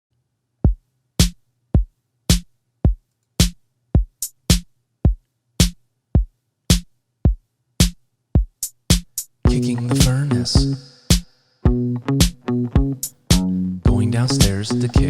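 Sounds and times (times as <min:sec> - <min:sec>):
drum machine beat: 0:00.7 - 0:15.0.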